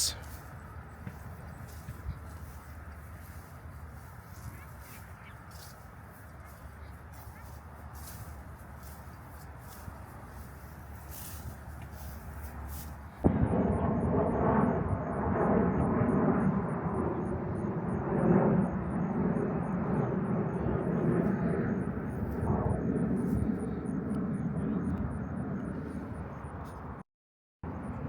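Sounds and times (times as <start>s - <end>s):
jet airplane flying by: 0.0s - 27.0s.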